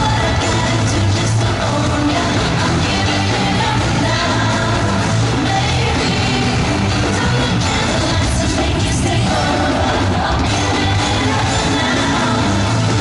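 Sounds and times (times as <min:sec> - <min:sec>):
pop music backing with beat: 0:00.0 - 0:13.0
women singing into microphones: 0:00.0 - 0:13.0.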